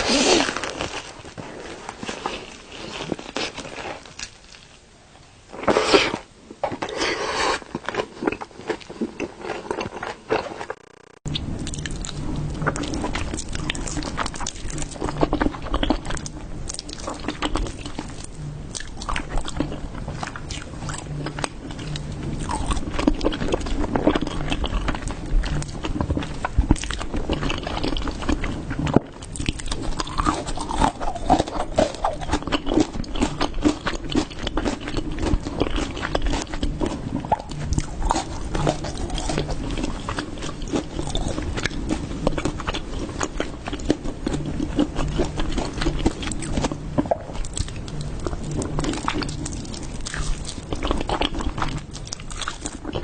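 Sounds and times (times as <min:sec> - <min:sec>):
person chewing food: 0:05.6 - 0:53.0.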